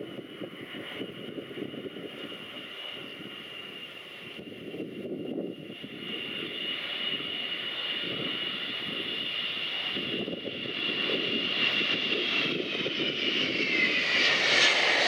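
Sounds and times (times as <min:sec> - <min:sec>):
jet engine fan whine: 0:00.0 - 0:15.0.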